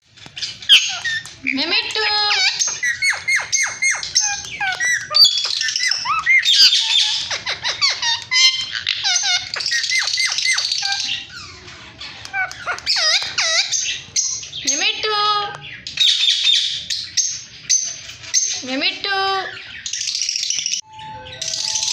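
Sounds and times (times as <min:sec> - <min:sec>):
parrot chirping: 0:00.1 - 0:21.9
parrot squawking: 0:00.2 - 0:21.9.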